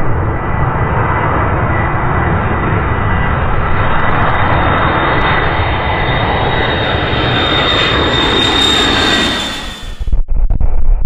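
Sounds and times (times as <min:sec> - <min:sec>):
jet engine rumble overhead: 0:00.0 - 0:10.2.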